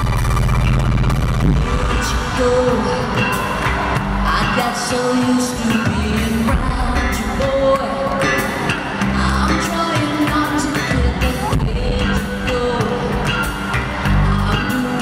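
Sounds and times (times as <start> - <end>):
pop-rock band playing: 0.0 - 15.0
woman singing into microphone: 1.6 - 3.6, 4.2 - 13.5, 14.1 - 15.0.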